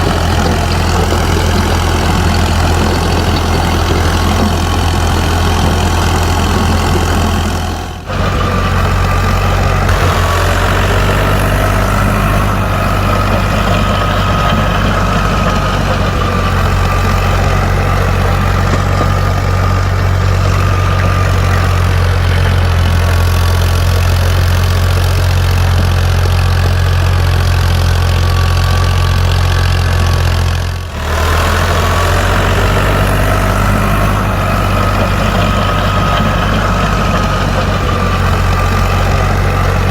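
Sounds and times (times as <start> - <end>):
tractor motor humming with whine: 0.0 - 39.9.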